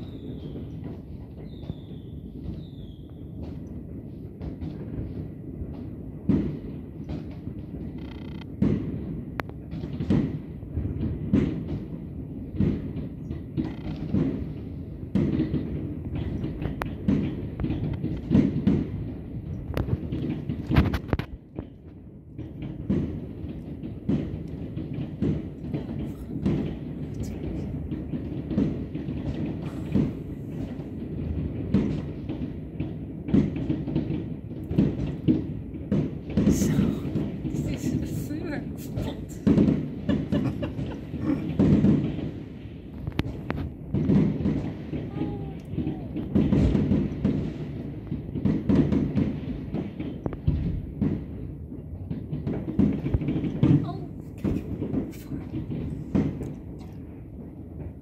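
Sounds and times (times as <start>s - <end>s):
distant fireworks rumble: 0.0s - 58.0s
sharp firework explosions: 0.0s - 58.0s.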